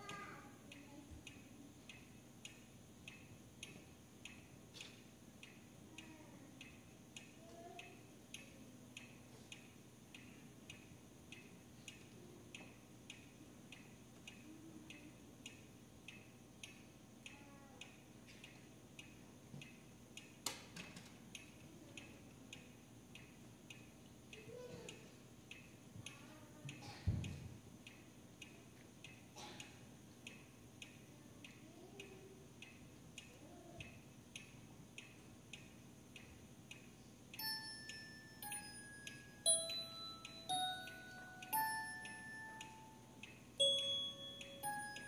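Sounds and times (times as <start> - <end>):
faint clock ticking: 0.0 - 45.0.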